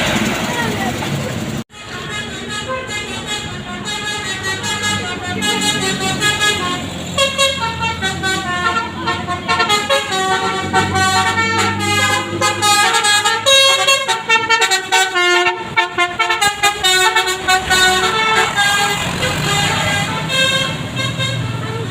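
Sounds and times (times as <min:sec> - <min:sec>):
bus engine humming: 0:00.0 - 0:21.9
multi-tone bus horn melody: 0:01.7 - 0:21.9.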